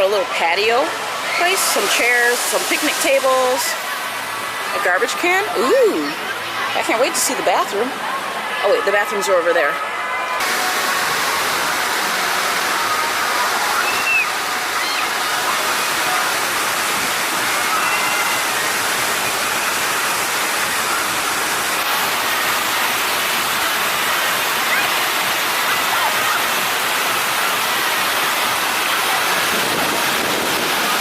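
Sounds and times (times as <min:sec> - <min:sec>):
water falling and splashing: 0:00.0 - 0:09.2, 0:10.3 - 0:31.0.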